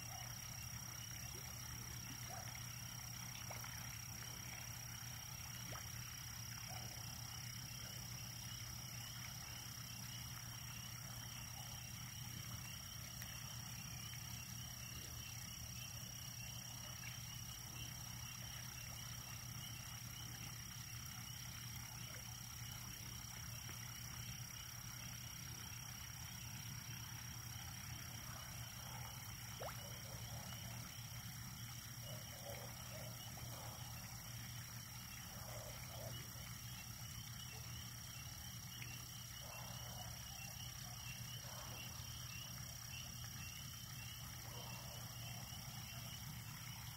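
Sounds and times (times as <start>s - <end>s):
frogs trilling: 0.0s - 46.9s.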